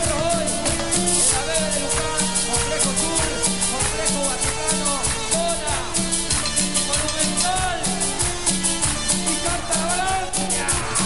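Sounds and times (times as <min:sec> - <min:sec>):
keyboard lead bending notes: 0:00.0 - 0:11.0
percussion strokes: 0:00.0 - 0:11.0.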